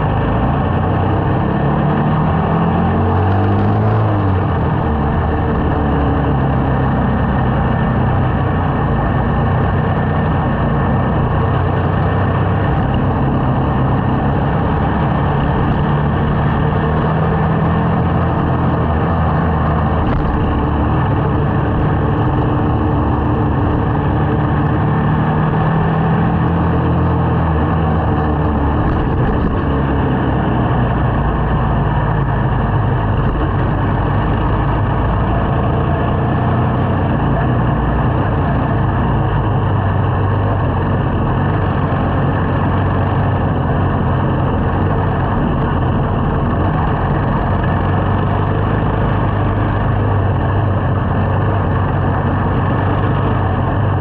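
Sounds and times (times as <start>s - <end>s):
small motorcycle engine running: 0.0s - 54.0s.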